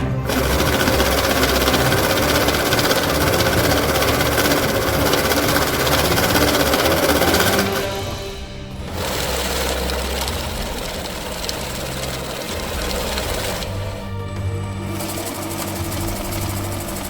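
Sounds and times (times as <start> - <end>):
banknote counting machine riffling: 0.3 - 17.0.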